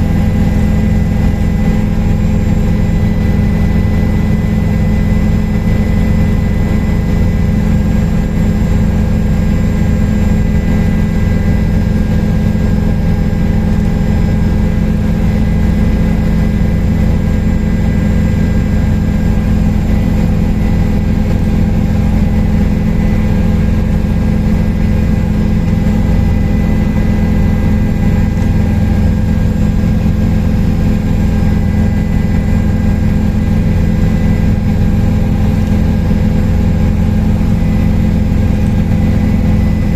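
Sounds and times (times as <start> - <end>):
helicopter rotor and engine drone: 0.0 - 39.9
steady whine: 0.0 - 39.9.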